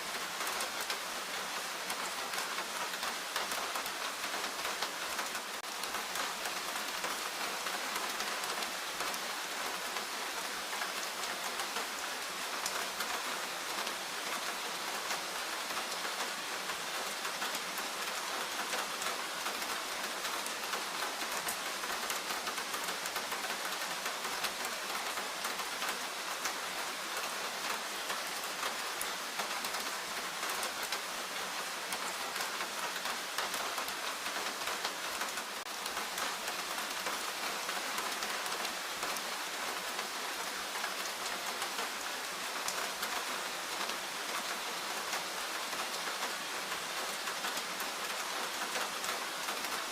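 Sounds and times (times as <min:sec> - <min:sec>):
steady rain in forest: 0:00.0 - 0:49.9.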